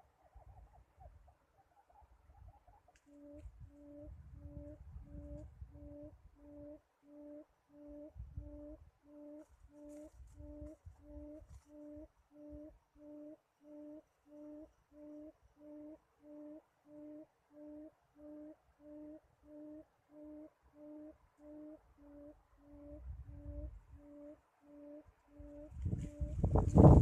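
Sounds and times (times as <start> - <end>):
bird hooting: 0.0 - 26.6.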